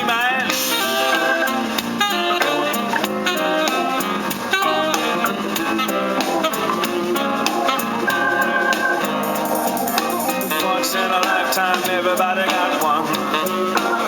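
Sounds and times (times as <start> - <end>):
pop music with steady beat: 0.0 - 14.0.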